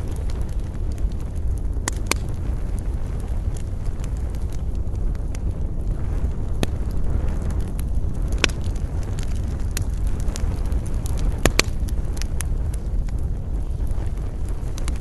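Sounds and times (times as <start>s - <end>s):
campfire crackling and popping: 0.0s - 15.0s
wind rumble: 0.0s - 15.0s.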